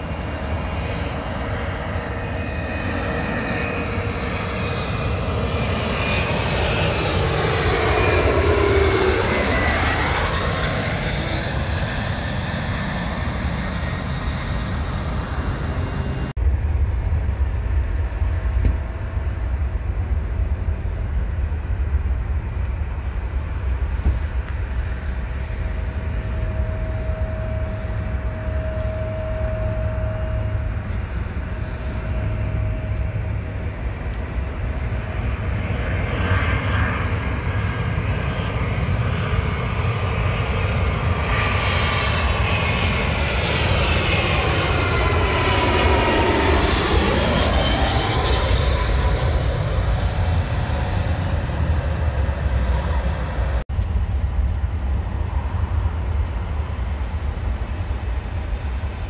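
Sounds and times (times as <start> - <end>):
airliner engine whine: 0.0 - 59.0
steady low rumble: 0.0 - 59.0.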